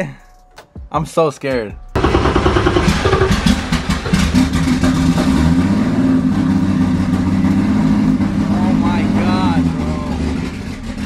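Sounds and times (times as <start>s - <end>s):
car engine idling: 2.0s - 11.0s.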